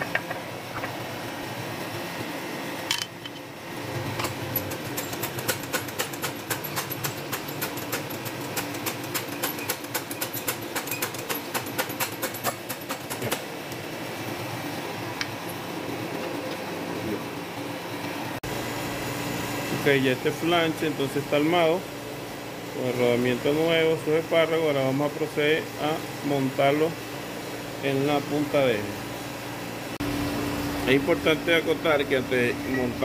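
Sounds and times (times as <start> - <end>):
fan hum: 0.0 - 33.0.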